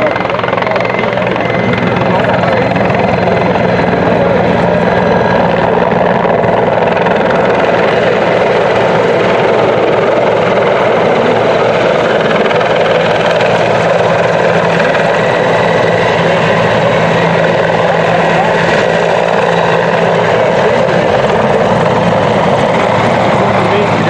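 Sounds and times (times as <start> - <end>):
helicopter engines and rotor: 0.0 - 24.0.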